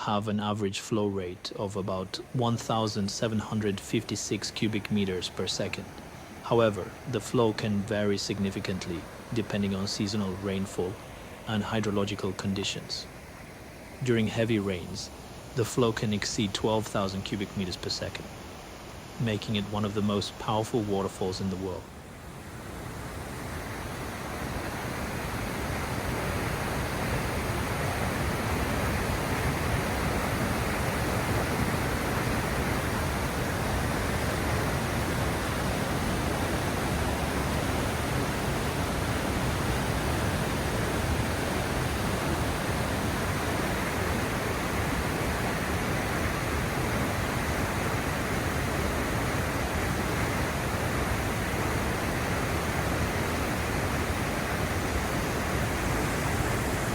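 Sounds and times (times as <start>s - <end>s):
waterfall rushing: 1.0s - 21.8s, 22.6s - 56.9s.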